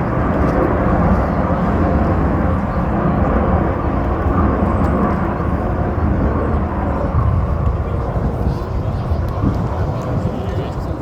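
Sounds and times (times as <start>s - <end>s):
aircraft engine rumble: 0.0s - 11.0s.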